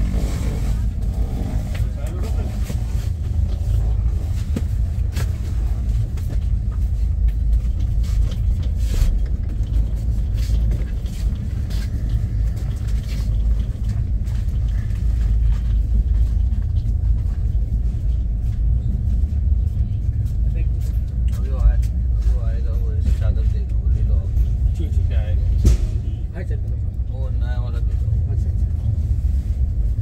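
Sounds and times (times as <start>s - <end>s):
wheels clicking on track: 0.0s - 28.6s
train rumble: 0.0s - 30.0s.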